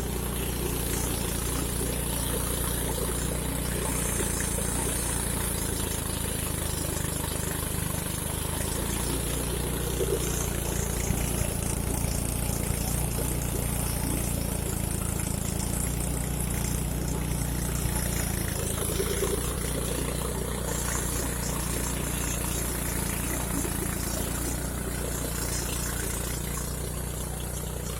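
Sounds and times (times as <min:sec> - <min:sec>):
threshing machine engine drone: 0:00.0 - 0:27.9.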